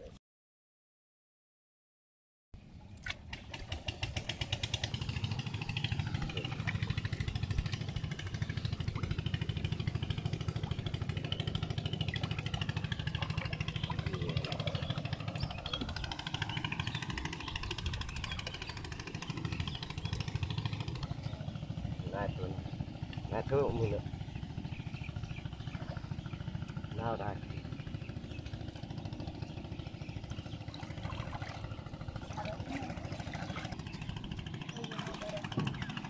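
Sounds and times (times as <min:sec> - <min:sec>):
small engine running: 0:03.2 - 0:36.0.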